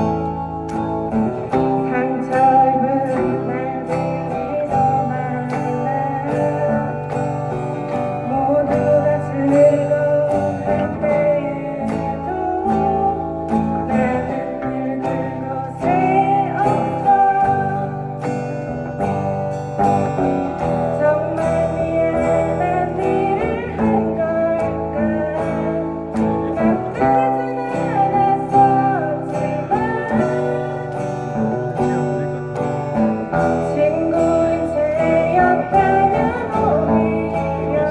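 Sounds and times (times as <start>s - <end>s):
guitars: 0.0s - 37.9s.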